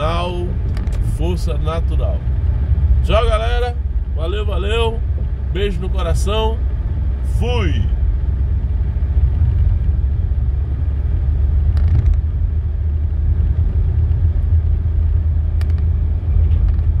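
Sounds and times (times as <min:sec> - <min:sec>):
car driving low rumble: 0:00.0 - 0:17.0.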